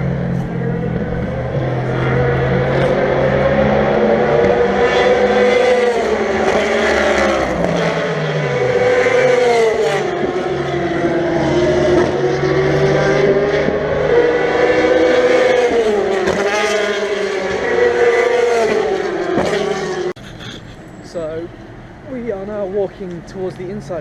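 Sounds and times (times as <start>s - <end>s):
racing car engines running hard: 0.0s - 22.4s.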